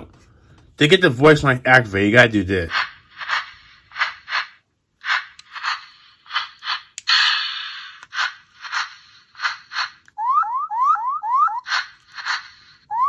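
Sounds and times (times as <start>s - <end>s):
toy swishing sounds: 2.4s - 13.0s.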